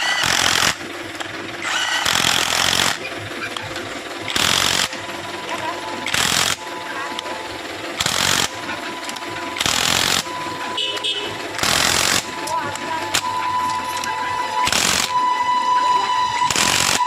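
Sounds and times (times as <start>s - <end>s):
power tool bursts: 0.0s - 17.0s
steady thin whine: 0.0s - 17.0s.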